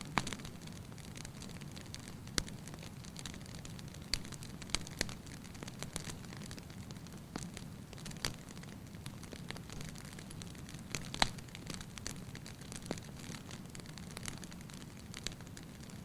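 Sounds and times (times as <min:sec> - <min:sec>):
fire crackling and popping: 0:00.0 - 0:16.0
fire low rumble: 0:00.0 - 0:16.0.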